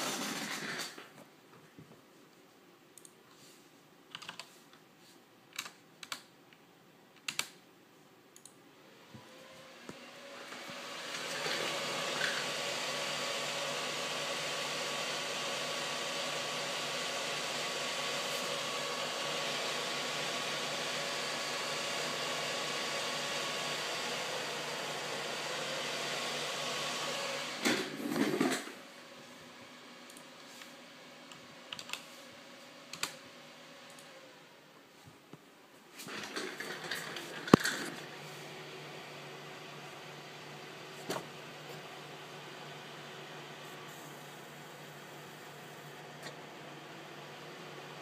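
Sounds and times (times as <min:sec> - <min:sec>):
computer fans whirring: 0:08.3 - 0:34.9, 0:36.0 - 0:48.0.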